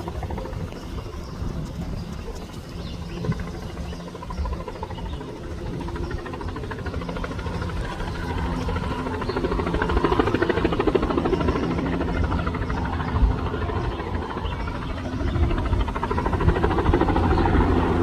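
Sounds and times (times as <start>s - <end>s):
helicopter rotor chop: 0.0s - 18.0s
turbine engine whine: 0.0s - 18.0s.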